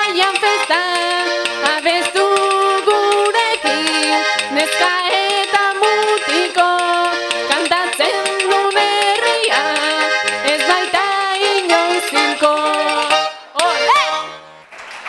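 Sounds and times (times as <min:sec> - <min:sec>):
woman singing: 0:00.0 - 0:14.4
button accordion playing: 0:00.0 - 0:14.7.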